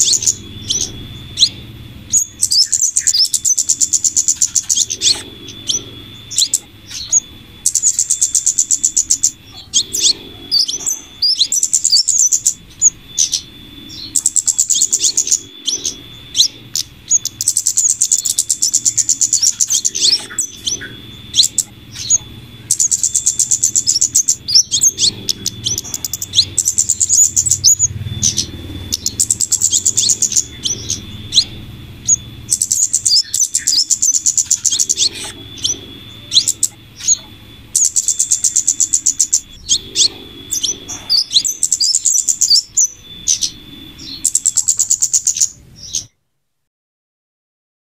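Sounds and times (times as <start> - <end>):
high thin bird chirps: 0.0 - 46.2.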